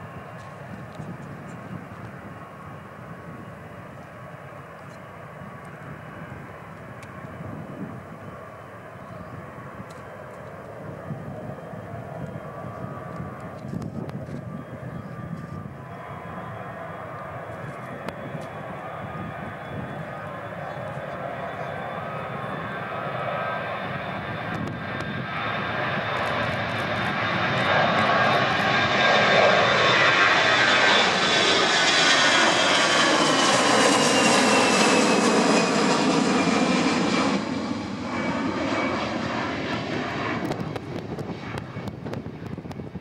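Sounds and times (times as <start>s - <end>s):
jet engines at takeoff power: 0.0s - 43.0s.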